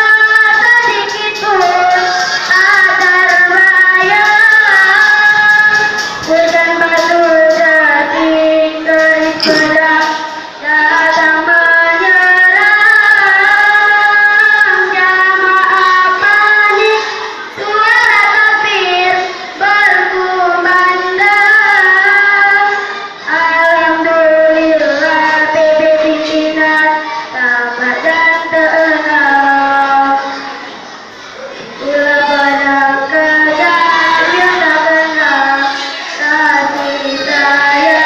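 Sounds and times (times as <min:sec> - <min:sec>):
child singing unaccompanied: 0:00.0 - 0:38.0.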